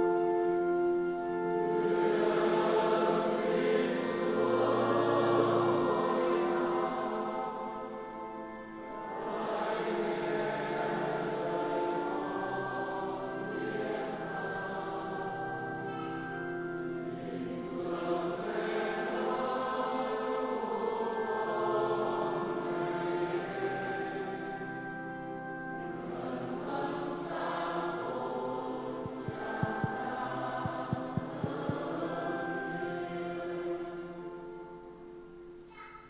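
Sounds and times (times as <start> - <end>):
choir singing a hymn: 0.0 - 35.6.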